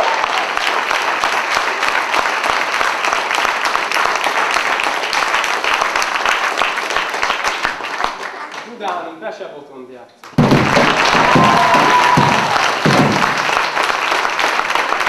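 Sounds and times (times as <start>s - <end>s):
children applauding: 0.0s - 9.0s, 10.2s - 15.0s.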